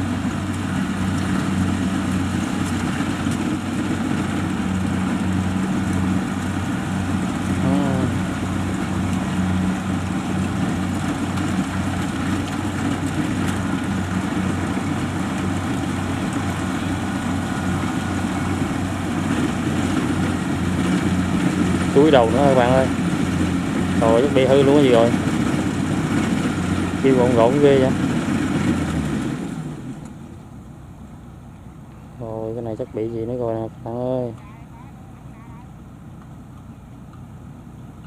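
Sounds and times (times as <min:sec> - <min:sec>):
diesel engine drone: 0:00.0 - 0:38.0.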